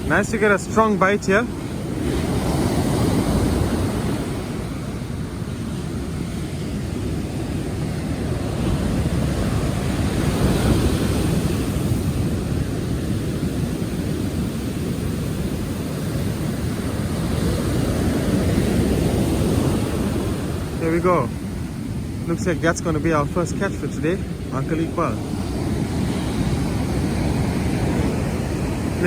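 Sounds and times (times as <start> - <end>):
surf washing: 0.0 - 29.0
wind rumbling on microphone: 0.0 - 29.0.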